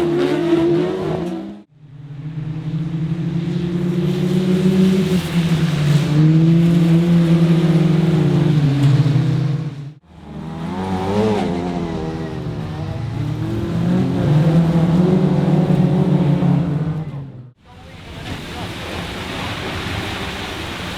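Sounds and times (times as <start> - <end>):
racing car engines at high revs: 0.0 - 17.6.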